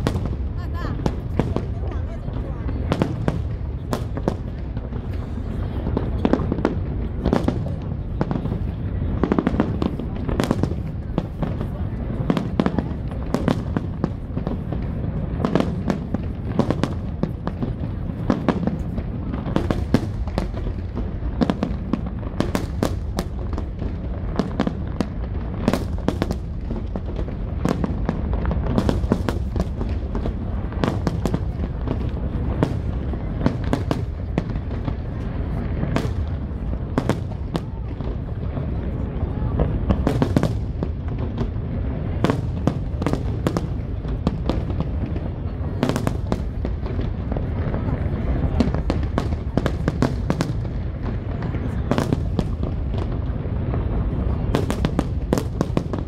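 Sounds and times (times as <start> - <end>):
sharp bangs and crackles: 0.0 - 56.0.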